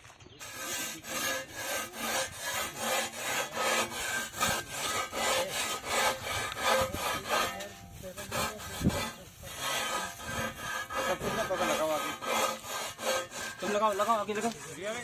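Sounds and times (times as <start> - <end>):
metal blade scraping pig skin: 0.4 - 15.0.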